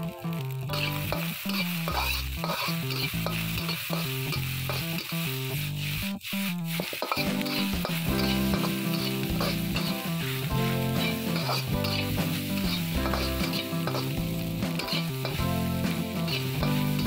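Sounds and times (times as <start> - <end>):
frying sizzle: 0.0 - 17.0
metal spatula scraping a wok: 0.7 - 17.0.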